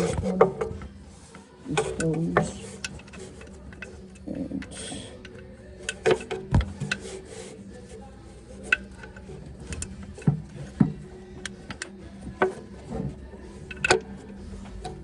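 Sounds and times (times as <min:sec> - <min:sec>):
hand tools clicking on metal parts: 0:01.7 - 0:07.3, 0:08.5 - 0:15.0.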